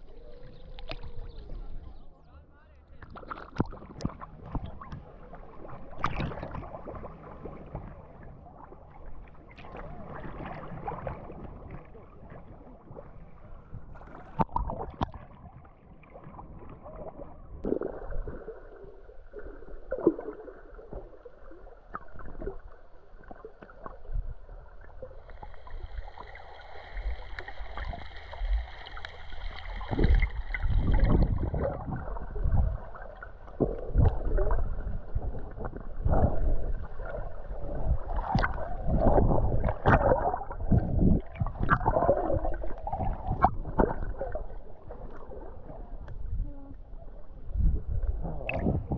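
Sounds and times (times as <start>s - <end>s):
water sloshing and splashing: 3.0s - 48.9s.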